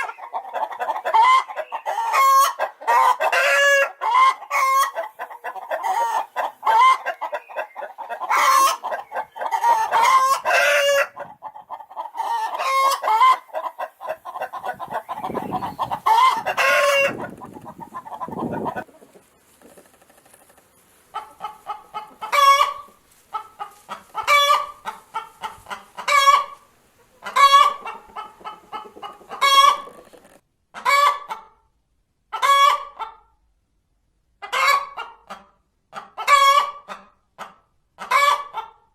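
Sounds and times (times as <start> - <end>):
hens clucking and cackling: 0.0 - 31.6, 32.3 - 33.3, 34.4 - 38.9.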